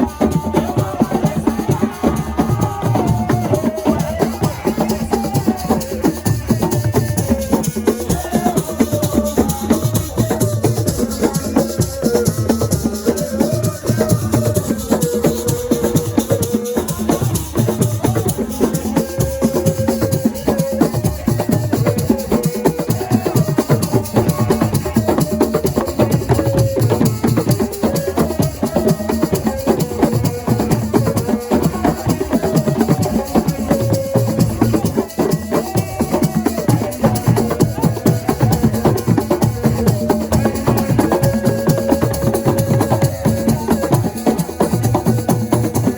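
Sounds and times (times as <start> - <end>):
fast drumming: 0.0 - 45.9
shakers: 0.0 - 45.9.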